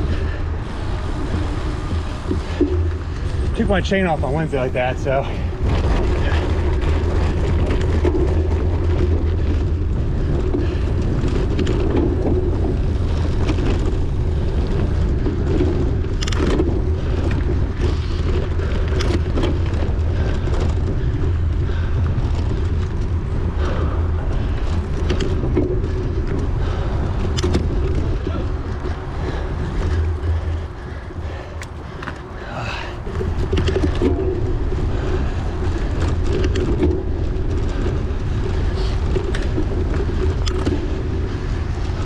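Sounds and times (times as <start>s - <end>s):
bike tyres on course: 0.0s - 42.0s
wind on microphone: 0.0s - 42.0s.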